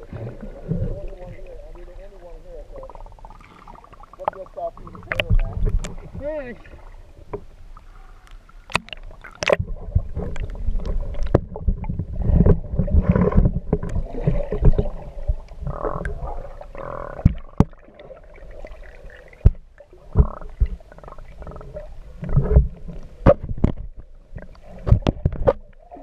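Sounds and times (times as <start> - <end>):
muffled underwater gurgling: 0.0 - 7.0, 9.4 - 26.0
low underwater rumble: 0.0 - 26.0.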